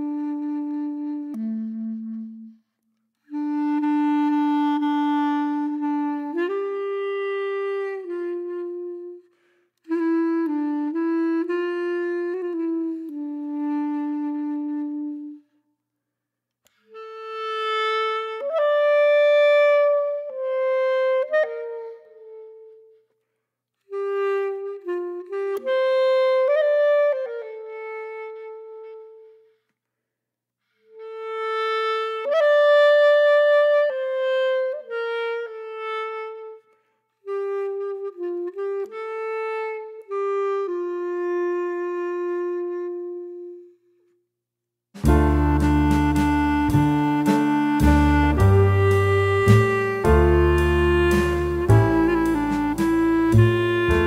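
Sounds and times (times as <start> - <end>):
solo woodwind melody: 0.0 - 15.7, 16.6 - 29.8, 30.7 - 44.2, 45.0 - 54.0.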